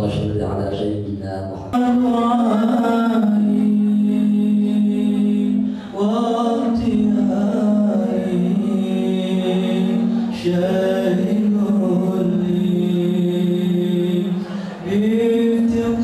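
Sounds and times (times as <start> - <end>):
men singing a cappella: 1.7 - 16.0.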